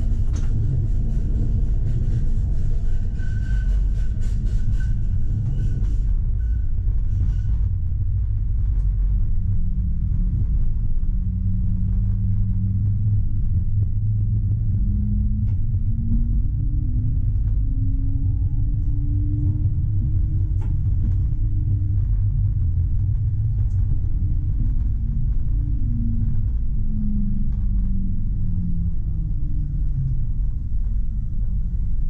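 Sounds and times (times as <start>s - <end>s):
tram rumbling on tracks: 0.0s - 32.0s.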